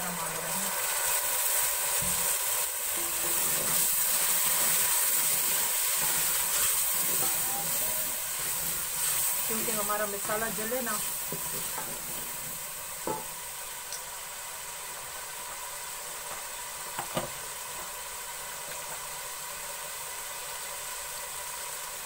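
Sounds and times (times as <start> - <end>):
sauce sizzling in oil: 0.0 - 22.0.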